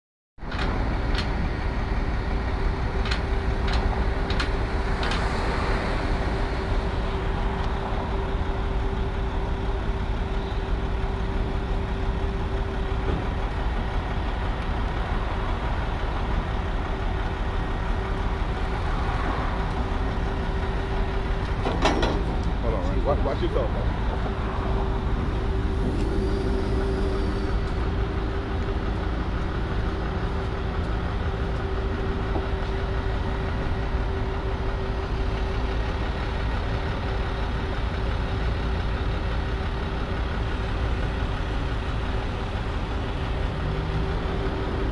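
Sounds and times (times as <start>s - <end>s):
truck engine idling: 0.4s - 44.9s.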